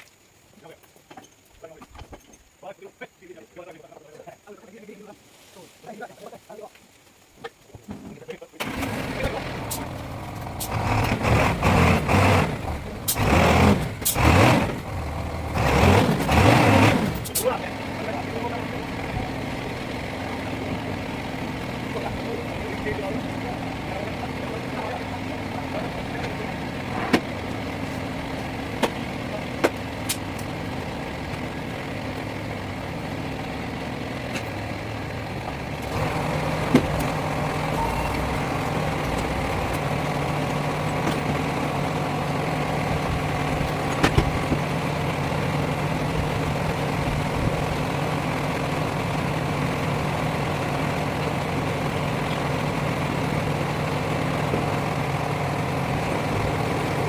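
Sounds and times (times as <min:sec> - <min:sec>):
lorry engine running: 0:08.6 - 0:57.0.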